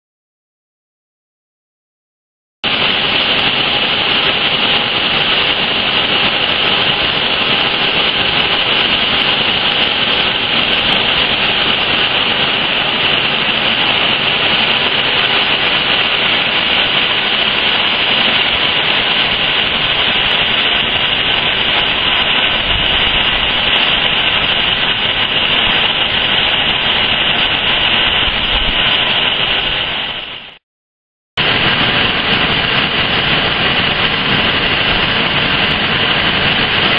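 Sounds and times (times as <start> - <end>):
industrial machinery running: 2.6 - 30.2, 31.4 - 36.9.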